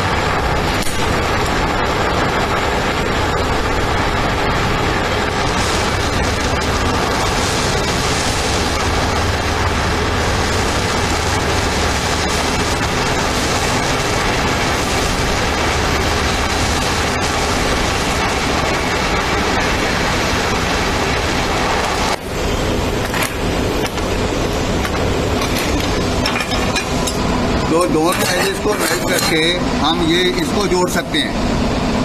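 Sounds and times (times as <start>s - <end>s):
welding arc hissing: 0.0s - 32.0s.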